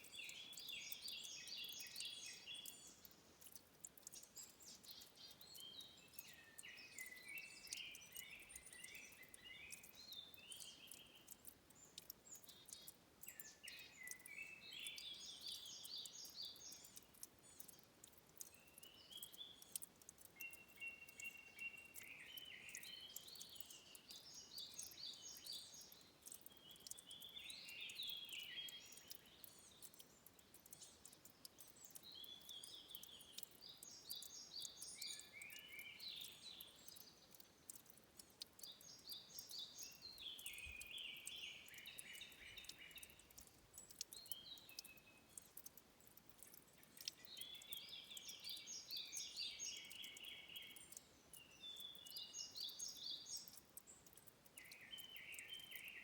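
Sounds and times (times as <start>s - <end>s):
faint clicks: 0.0s - 56.0s
songbird singing trilled phrases: 0.0s - 56.0s.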